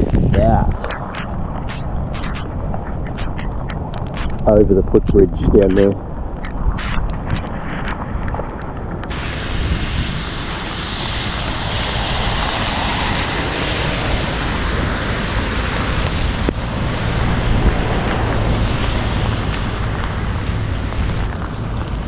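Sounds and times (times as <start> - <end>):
wind buffeting microphone: 0.0 - 22.0
floodwater rushing: 0.7 - 4.6, 6.8 - 22.0.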